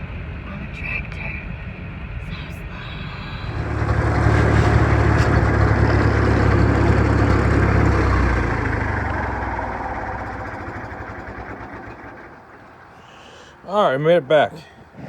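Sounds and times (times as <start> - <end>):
tractor engine running: 0.0 - 14.5.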